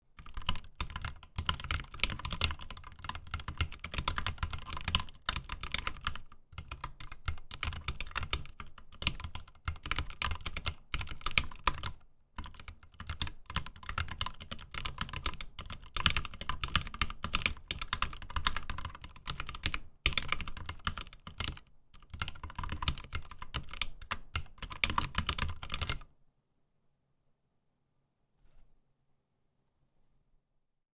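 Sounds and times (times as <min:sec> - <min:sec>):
mechanical keyboard typing: 0:00.2 - 0:26.1.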